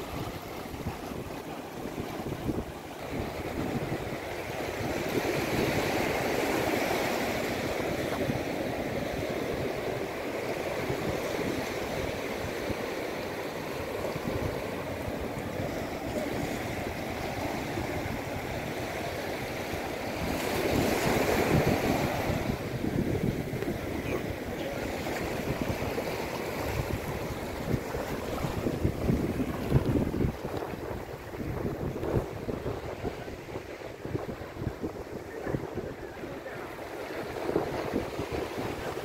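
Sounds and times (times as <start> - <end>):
surf washing on sand beach: 0.0 - 39.0.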